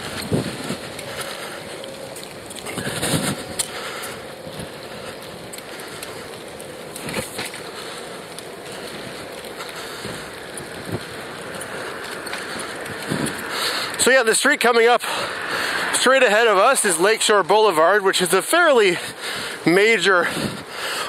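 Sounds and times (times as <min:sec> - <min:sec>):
wind and rolling noise: 0:00.0 - 0:21.0.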